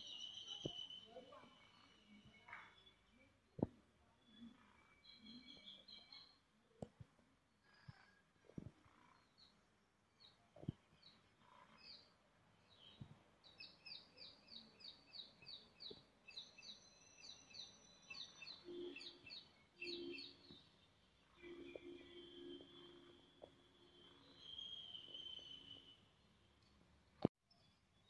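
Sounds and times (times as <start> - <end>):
small birds chirping: 0.0 - 7.0, 7.7 - 26.8.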